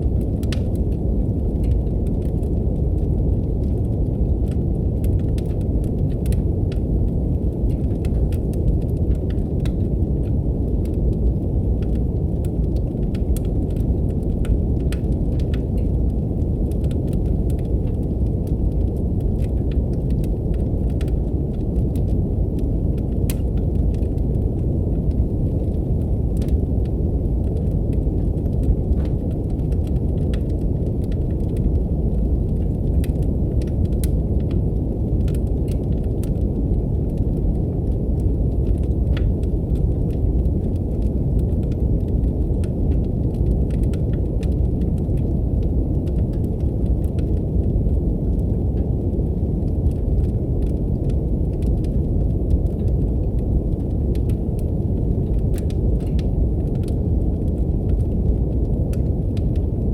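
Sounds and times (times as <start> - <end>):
brown noise rumble: 0.0 - 59.9
wood fire crackling: 0.0 - 59.9.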